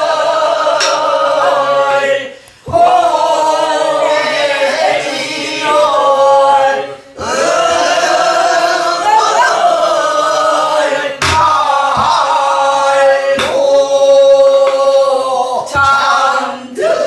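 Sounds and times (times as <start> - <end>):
group singing folk song: 0.0 - 17.0.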